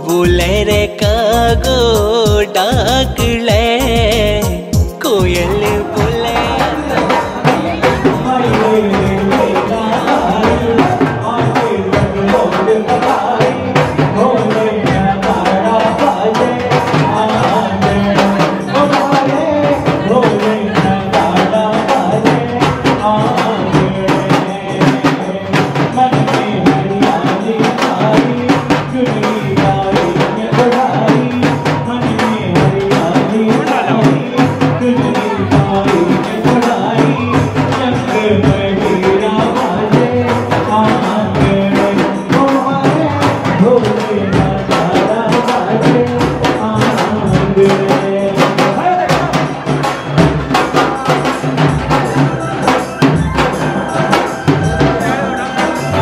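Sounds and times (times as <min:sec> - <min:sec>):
drums and jingling percussion: 0:00.0 - 0:56.0
folk wedding song: 0:00.0 - 0:56.0.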